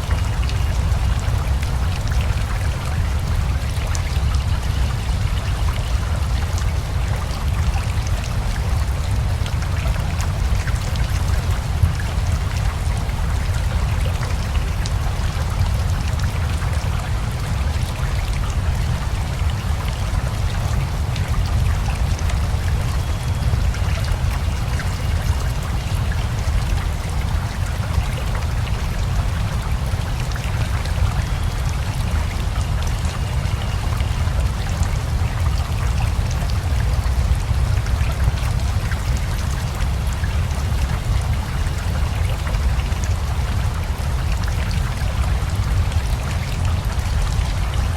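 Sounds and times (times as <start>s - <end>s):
river flowing: 0.0s - 47.9s
steady rain: 0.0s - 47.9s.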